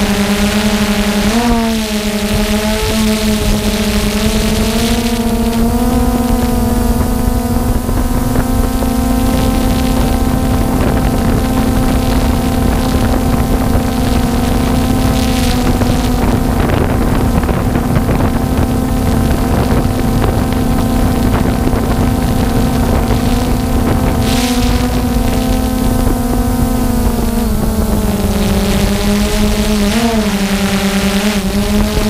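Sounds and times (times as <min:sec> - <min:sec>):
drone propellers humming: 0:00.0 - 0:32.0
wind buffeting microphone: 0:00.0 - 0:32.0.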